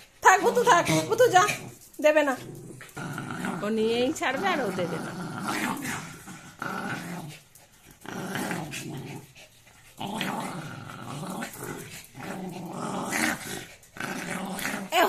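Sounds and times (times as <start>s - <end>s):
small dogs growling: 0.0s - 15.0s.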